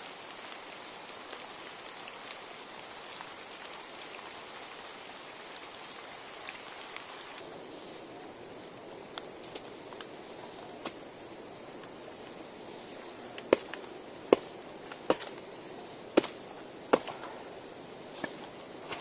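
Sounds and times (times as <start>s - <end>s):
light drizzle hissing: 0.0s - 19.0s.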